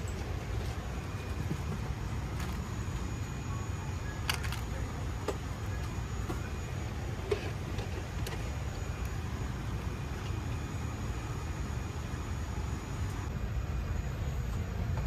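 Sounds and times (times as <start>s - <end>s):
cabin ventilation hum: 0.0s - 15.0s.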